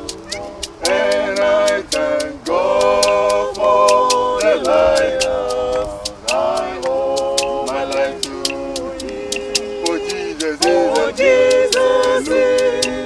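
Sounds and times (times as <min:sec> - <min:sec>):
group singing a hymn: 0:00.0 - 0:13.0
sharp taps: 0:00.0 - 0:13.0.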